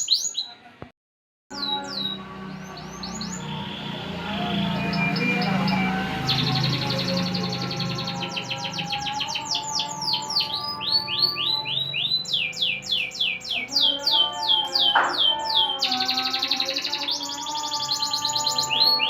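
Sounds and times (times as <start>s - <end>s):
canary singing trills: 0.0s - 0.6s, 1.5s - 19.0s.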